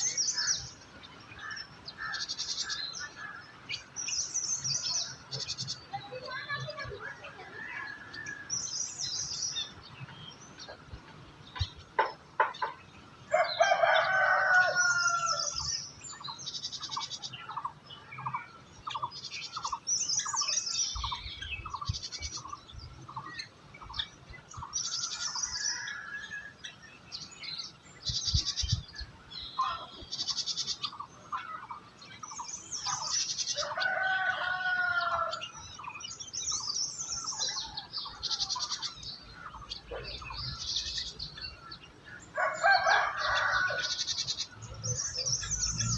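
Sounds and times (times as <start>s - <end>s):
wild birds chirping and trilling: 0.0s - 45.9s.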